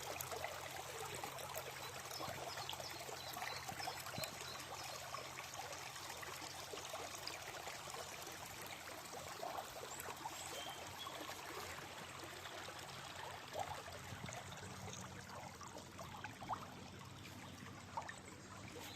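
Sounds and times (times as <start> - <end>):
stream trickling and gurgling: 0.0 - 18.9.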